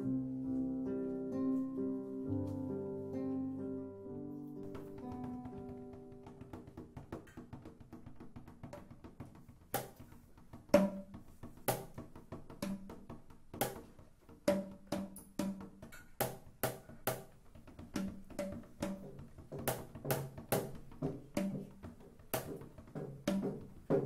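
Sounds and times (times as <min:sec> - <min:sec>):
drum and wood block strikes: 0:04.6 - 0:24.0.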